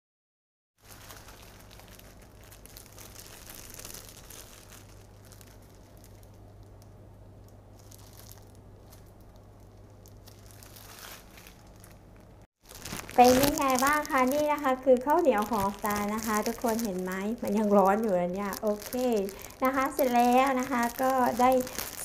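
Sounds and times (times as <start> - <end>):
plastic bags crinkling: 0.8 - 22.0
steady low hum: 1.4 - 22.0.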